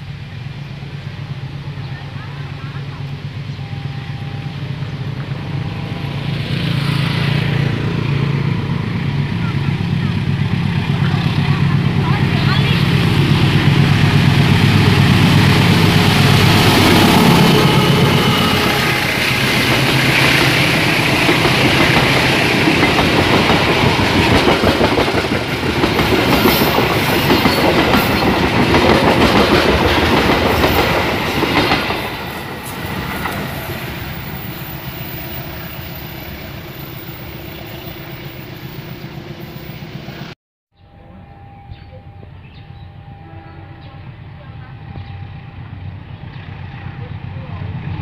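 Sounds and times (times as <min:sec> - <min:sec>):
passenger train passing: 0:00.0 - 0:48.0.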